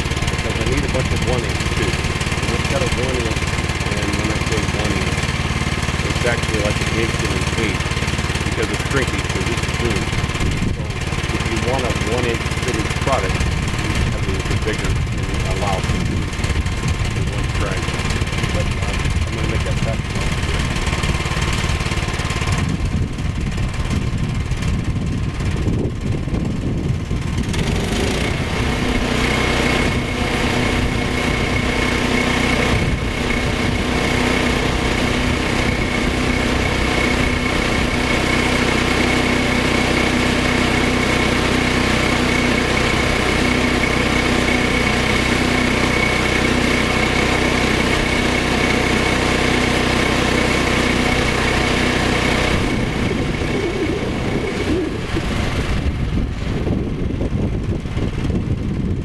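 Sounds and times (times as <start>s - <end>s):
small gas engine running: 0.0s - 59.0s.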